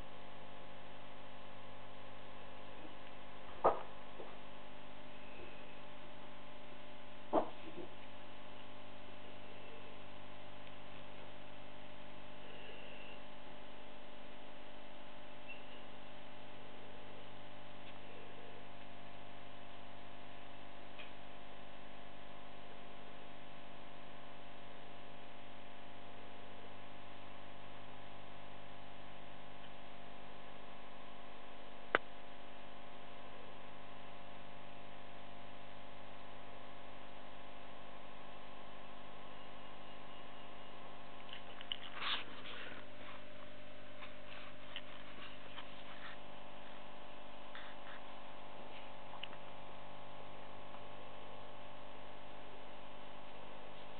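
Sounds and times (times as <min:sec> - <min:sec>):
steady electrical hum: 0:00.0 - 0:53.9.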